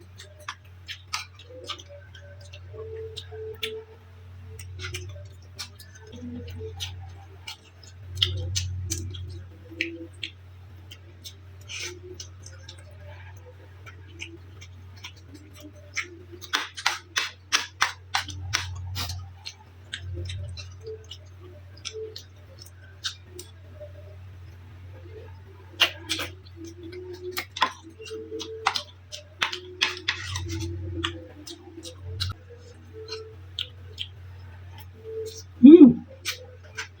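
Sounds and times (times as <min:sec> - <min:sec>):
mouth clicks and smacks chewing: 0:00.0 - 0:37.0
steady low hum: 0:00.0 - 0:37.0.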